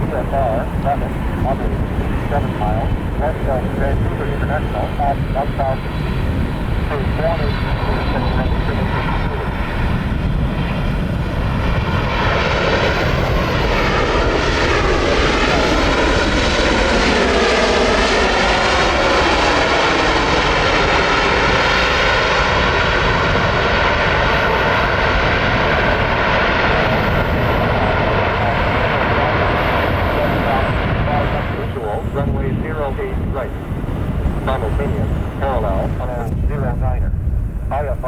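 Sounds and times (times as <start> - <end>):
airliner engines passing: 0.0 - 38.0.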